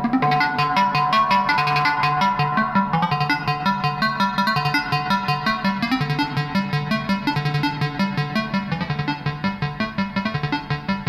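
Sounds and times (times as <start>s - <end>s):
plucked synthesizer notes: 0.0s - 11.0s
repeating synth bass line: 0.0s - 11.0s.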